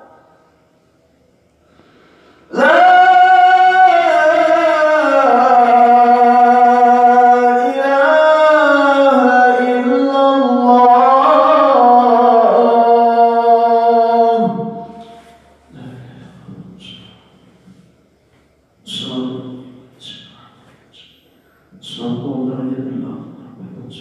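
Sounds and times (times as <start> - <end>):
man chanting call to prayer: 2.5 - 17.4, 18.8 - 21.1, 21.7 - 24.0.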